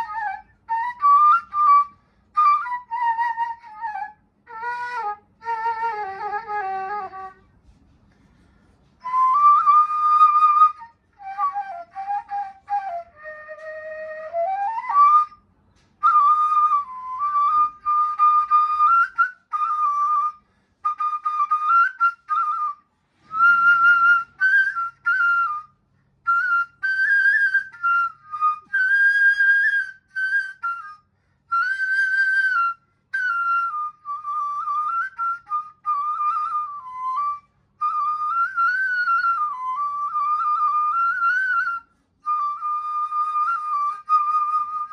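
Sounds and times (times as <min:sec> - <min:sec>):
solo reed flute melody: 0:00.0 - 0:07.9, 0:08.8 - 0:44.9.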